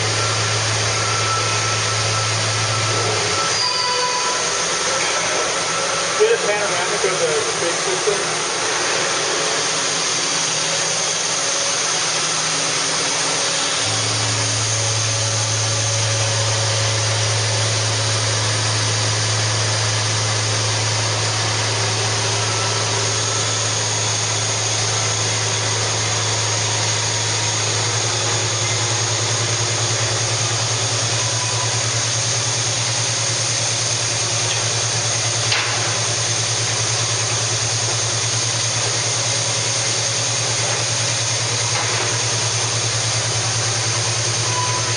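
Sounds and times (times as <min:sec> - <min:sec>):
factory machinery running: 0:00.0 - 0:44.9
loud low hum: 0:00.0 - 0:44.9.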